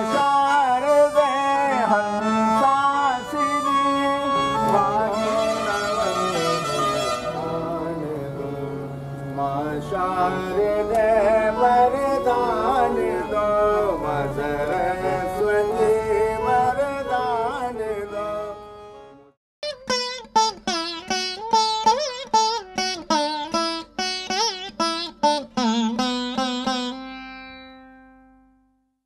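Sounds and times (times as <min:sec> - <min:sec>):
indian classical style music: 0:00.0 - 0:28.9.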